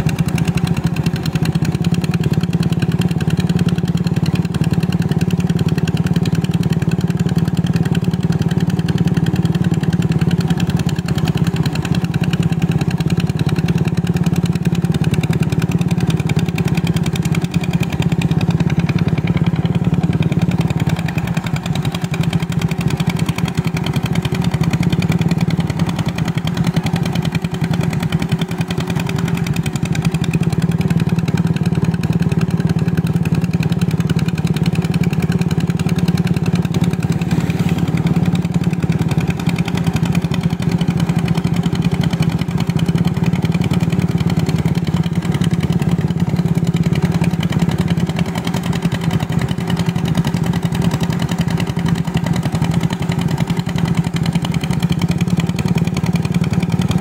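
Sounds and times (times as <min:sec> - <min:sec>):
hand tractor engine running: 0:00.0 - 0:57.0.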